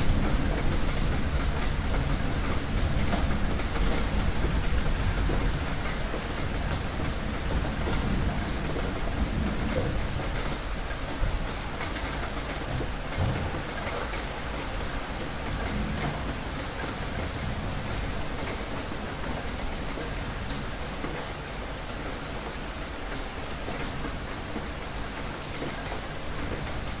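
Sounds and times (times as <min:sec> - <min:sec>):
heavy rain on hard surfaces: 0:00.0 - 0:27.0.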